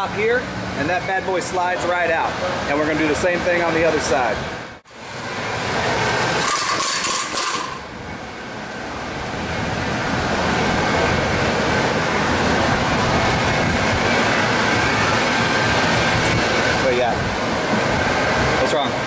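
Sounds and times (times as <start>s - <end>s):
machinery rumbling: 0.0s - 19.0s.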